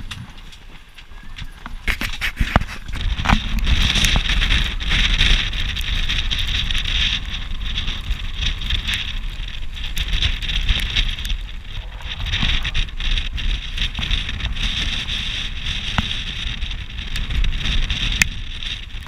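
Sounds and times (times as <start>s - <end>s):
torrential rain hiss: 0.0s - 19.0s
wind gusting on microphone: 0.0s - 19.0s.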